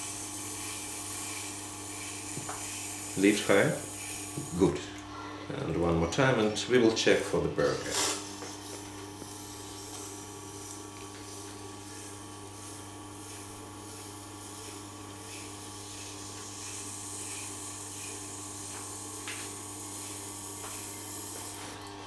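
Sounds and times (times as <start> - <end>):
knife rubbing on grinding wheel: 0.0 - 4.8, 7.1 - 22.0
sharpening machine humming: 0.0 - 5.1, 6.1 - 22.0.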